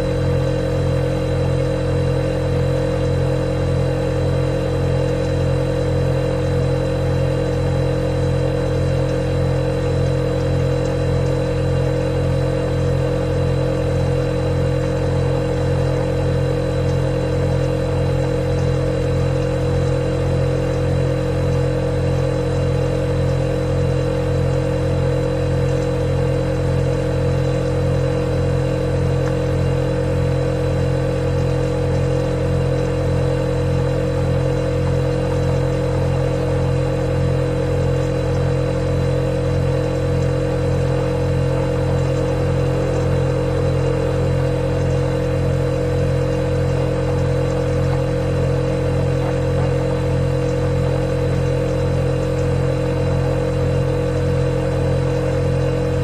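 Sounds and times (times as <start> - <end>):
refrigerator compressor hum: 0.0 - 56.0.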